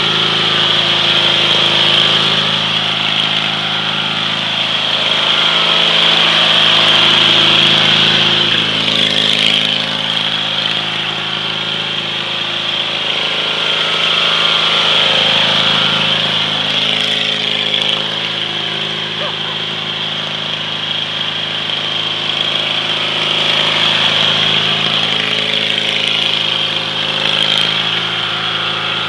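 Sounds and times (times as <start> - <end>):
small engine running under load: 0.0 - 29.0.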